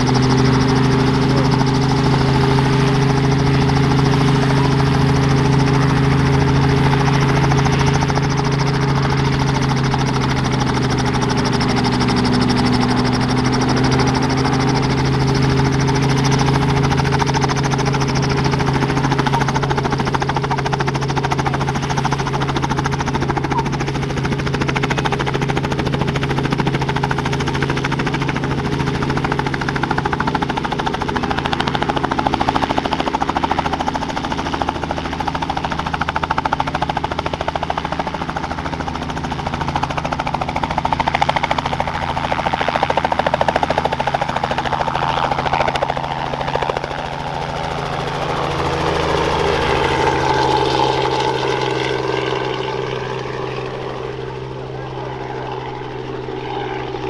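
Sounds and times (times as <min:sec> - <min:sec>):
helicopter engine and rotors: 0:00.0 - 0:57.0.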